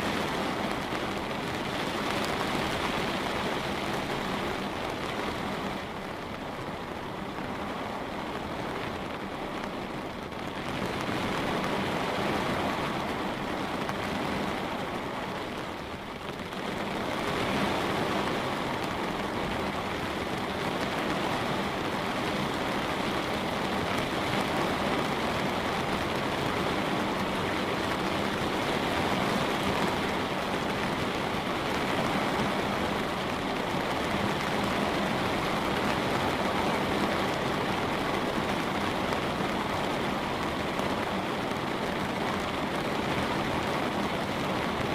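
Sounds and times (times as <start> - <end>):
light rain on window glass: 0.0 - 44.9.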